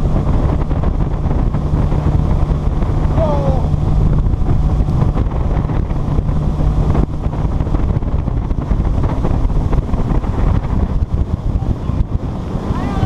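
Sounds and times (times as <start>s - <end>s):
motorboat engine drone: 0.0s - 13.0s
wind on microphone: 0.0s - 13.0s.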